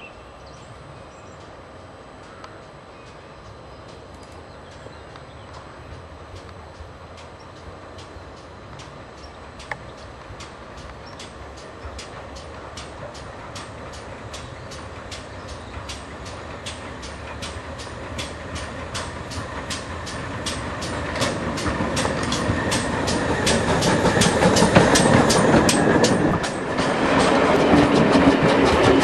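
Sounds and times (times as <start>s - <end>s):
train coaches rumbling: 0.0s - 29.0s
steam locomotive exhaust beats: 0.7s - 29.0s.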